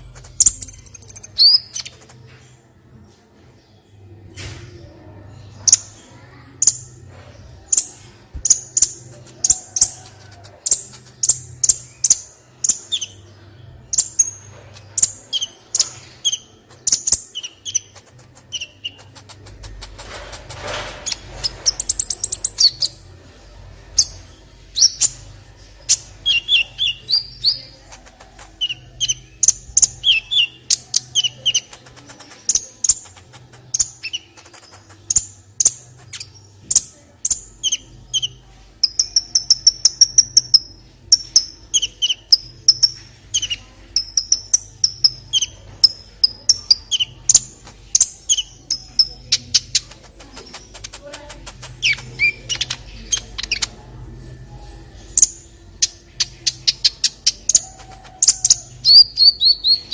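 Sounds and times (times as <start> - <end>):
sunbird chirping and trilling: 0.0 - 2.3, 5.4 - 20.1, 21.0 - 23.1, 23.8 - 59.9.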